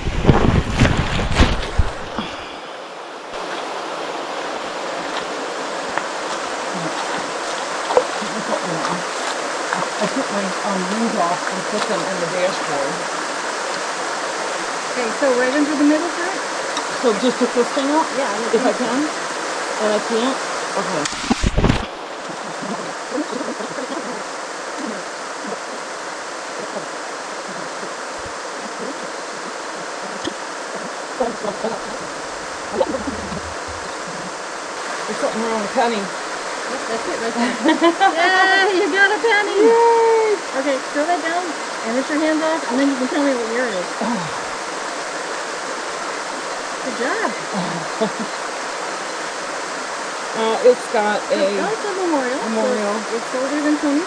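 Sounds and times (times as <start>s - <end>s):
stream burbling: 0.0s - 54.0s
waterfall rushing water: 0.0s - 54.0s.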